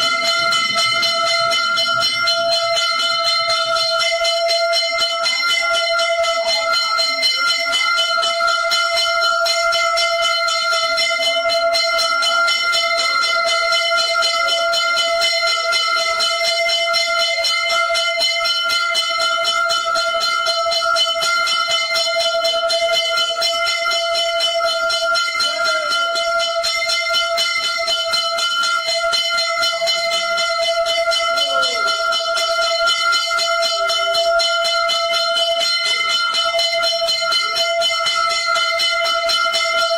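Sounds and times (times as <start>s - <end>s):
temple bells ringing rapidly: 0.0s - 39.9s.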